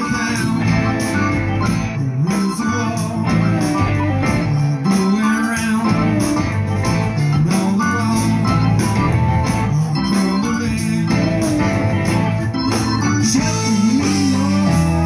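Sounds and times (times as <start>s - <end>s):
cymbals keeping a beat: 0.0s - 15.0s
live blues band playing: 0.0s - 15.0s.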